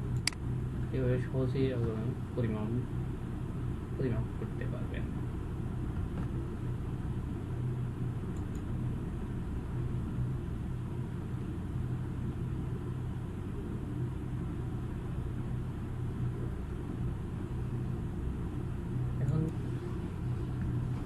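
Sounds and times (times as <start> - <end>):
constant hum: 0.0 - 21.0
low background rumble: 0.0 - 21.0.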